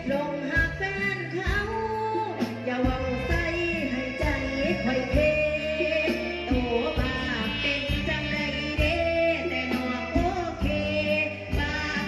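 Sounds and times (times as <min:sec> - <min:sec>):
amplified backing music with beat: 0:00.0 - 0:12.0
woman singing into a microphone: 0:00.0 - 0:12.0.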